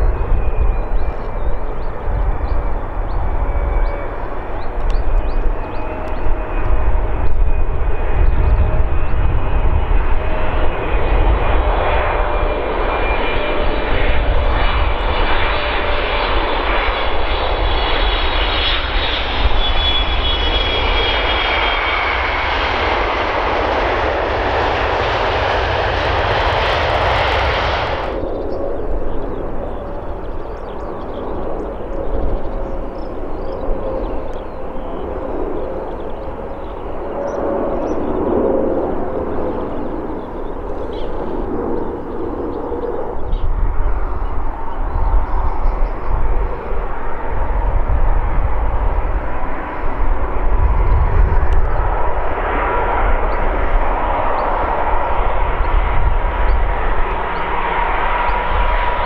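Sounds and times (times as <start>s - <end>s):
jet engine roar with whining fans: 0.0s - 59.0s
wind rumble on microphone: 0.0s - 59.0s.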